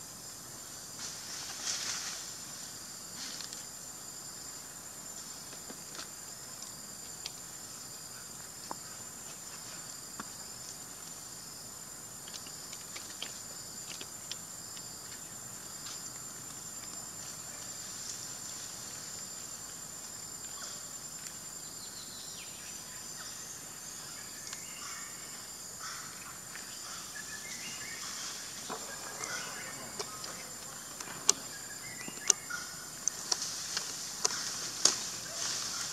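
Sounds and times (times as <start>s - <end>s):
insects droning: 0.0s - 35.9s.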